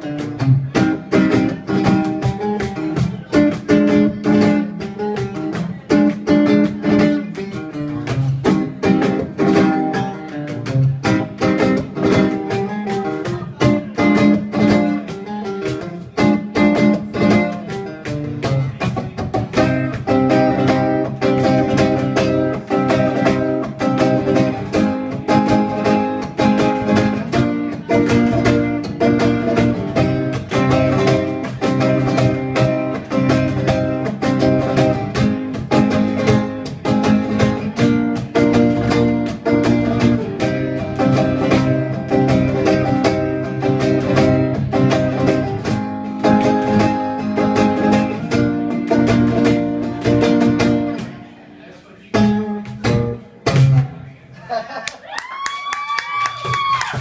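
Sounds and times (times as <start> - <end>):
cajon percussion: 0.0 - 51.3, 52.1 - 57.0
acoustic guitar strumming: 0.0 - 54.3.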